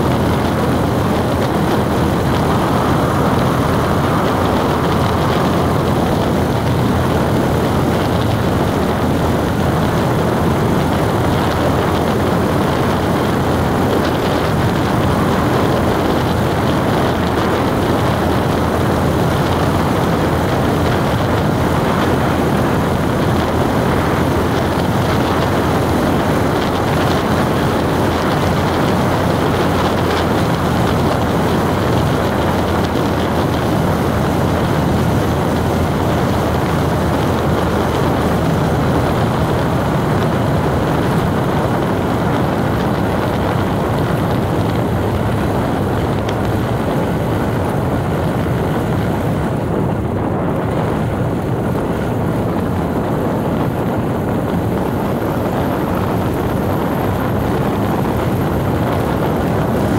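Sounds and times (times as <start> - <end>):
moving vehicle road noise: 0.0 - 59.9.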